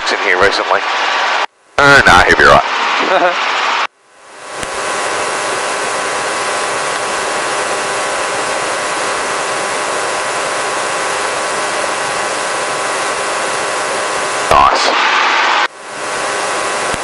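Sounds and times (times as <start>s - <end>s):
faint steady whine: 0.0s - 17.0s
helicopter engine and rotor drone: 0.0s - 17.0s.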